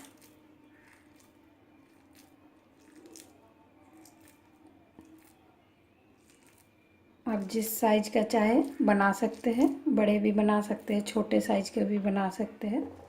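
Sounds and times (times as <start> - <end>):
soft squishes of wet hands: 0.0 - 11.8.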